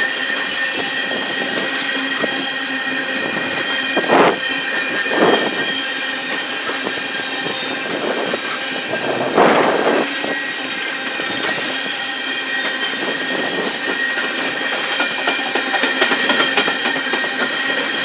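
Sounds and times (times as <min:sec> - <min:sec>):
freight train wheel rumble: 0:00.0 - 0:18.0
high wheel squeal: 0:00.0 - 0:18.0
train clatters: 0:00.0 - 0:18.0.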